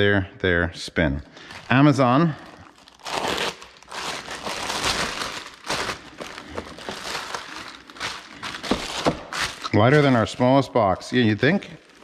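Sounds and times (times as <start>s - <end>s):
plastic bag tearing and crinkling: 1.4s - 12.0s.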